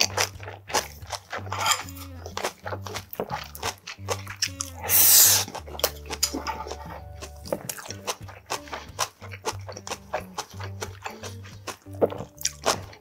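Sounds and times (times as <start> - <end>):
chewing food: 0.0 - 13.0
soft background music with bass: 0.0 - 13.0
wet mouth clicks: 0.0 - 13.0.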